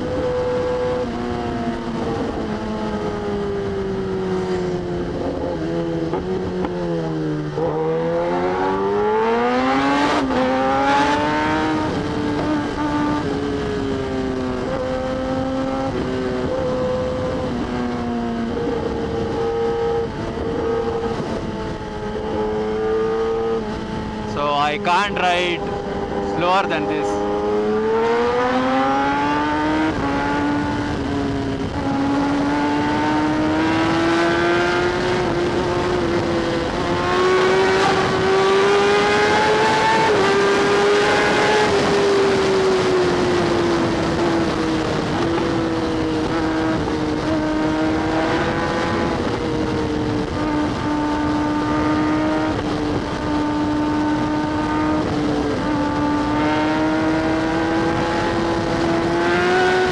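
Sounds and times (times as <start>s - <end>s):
motorcycle engine cruising: 0.0s - 59.9s
wind noise on microphone: 0.0s - 59.9s.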